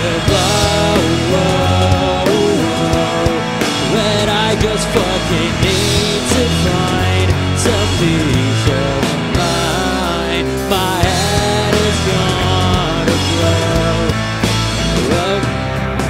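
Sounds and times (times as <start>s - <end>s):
bending guitar melody: 0.0s - 16.0s
rock band playing live: 0.0s - 16.0s.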